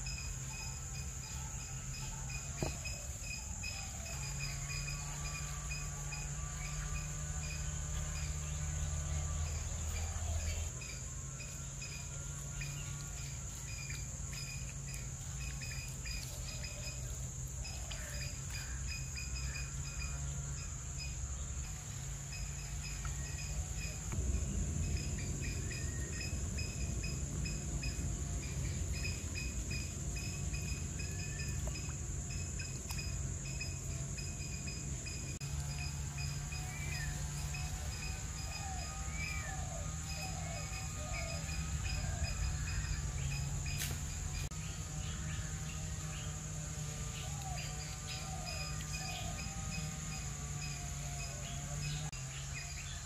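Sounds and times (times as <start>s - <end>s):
crickets chirping: 0.0s - 53.0s
low steady hum: 0.0s - 53.0s.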